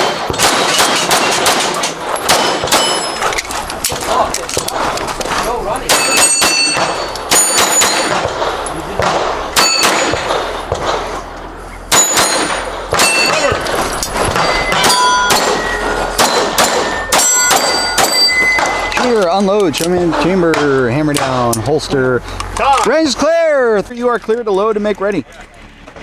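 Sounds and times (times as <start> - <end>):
steel plate target ringing: 0.0 - 4.9, 5.6 - 21.8
pistol shots: 0.0 - 5.3, 5.9 - 21.6.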